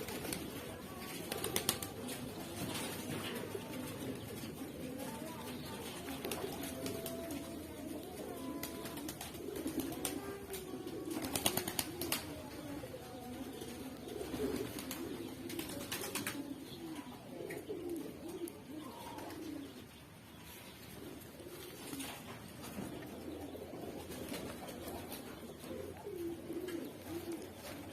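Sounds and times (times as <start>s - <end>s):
pigeons cooing: 0.0s - 27.9s.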